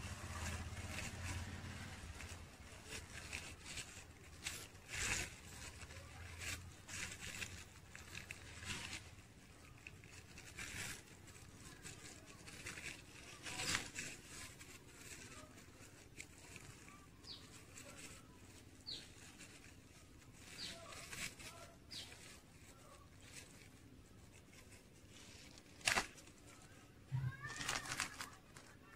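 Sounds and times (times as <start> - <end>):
plastic sheet crinkling: 0.0 - 28.9.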